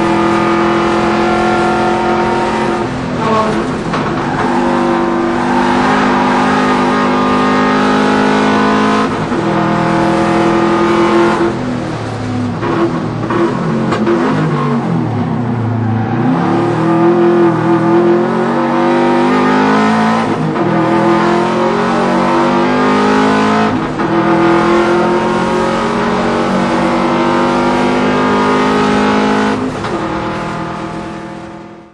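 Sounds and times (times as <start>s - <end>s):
turbocharged car engine revving: 0.0s - 31.9s.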